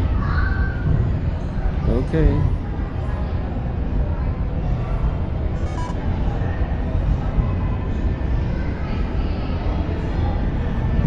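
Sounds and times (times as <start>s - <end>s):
busy indoor hall rumble: 0.0s - 11.0s.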